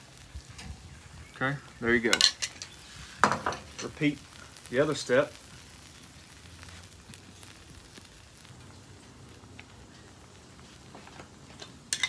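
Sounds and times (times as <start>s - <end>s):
sauce sizzling in a skillet: 0.0s - 12.0s.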